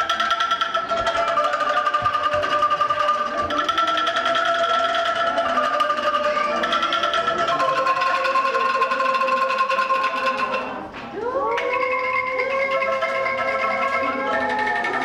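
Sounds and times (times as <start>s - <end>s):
angklung ensemble playing melody: 0.0s - 15.0s.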